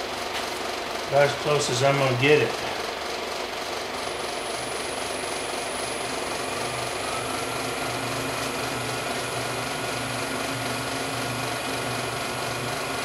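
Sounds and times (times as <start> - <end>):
wood lathe motor hum: 0.0 - 13.0.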